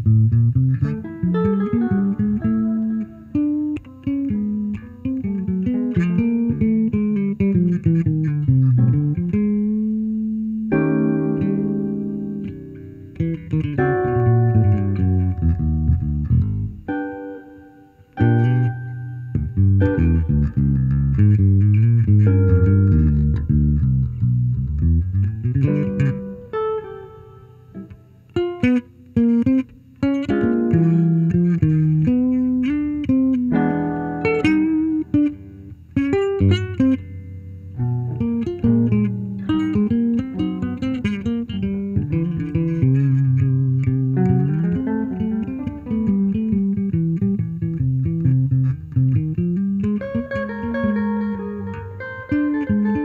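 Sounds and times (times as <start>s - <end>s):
electric guitar and bass duet: 0.0s - 53.0s.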